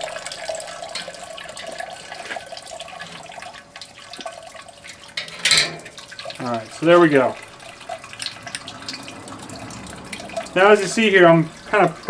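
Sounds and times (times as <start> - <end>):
drips falling into liquid: 0.0 - 12.0
liquid trickling: 0.0 - 12.0.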